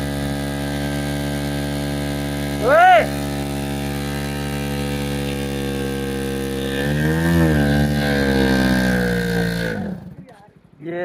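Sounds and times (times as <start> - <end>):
wheel spinning in wet sand: 0.0 - 10.2
motorcycle engine revving: 0.0 - 11.0.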